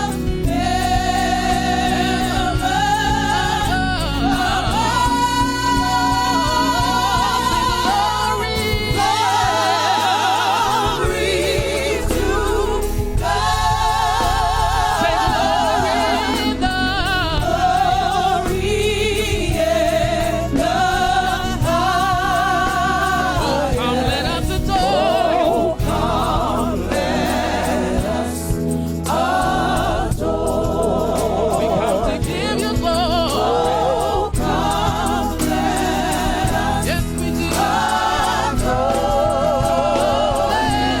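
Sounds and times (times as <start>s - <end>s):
gospel choir singing with band: 0.0s - 41.0s.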